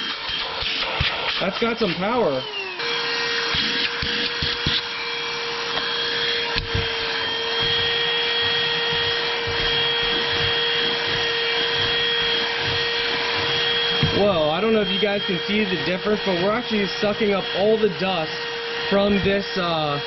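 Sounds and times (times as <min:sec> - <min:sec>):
handheld vacuum running: 0:00.0 - 0:20.0.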